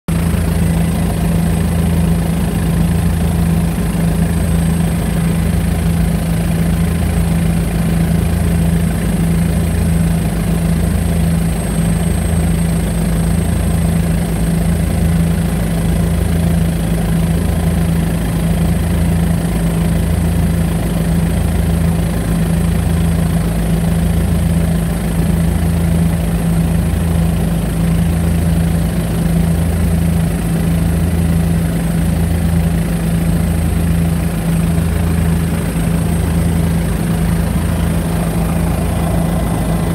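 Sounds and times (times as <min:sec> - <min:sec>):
aircraft engine drone: 0:00.1 - 0:39.9.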